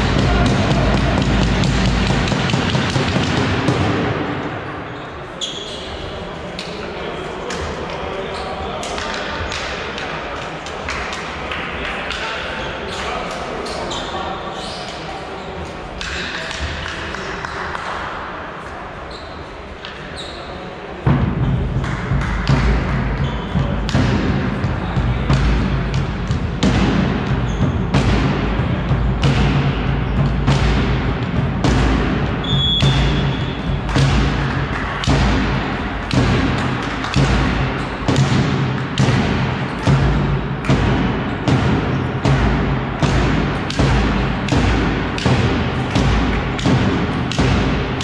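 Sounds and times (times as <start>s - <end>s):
echoing sports hall ambience: 0.0s - 48.0s.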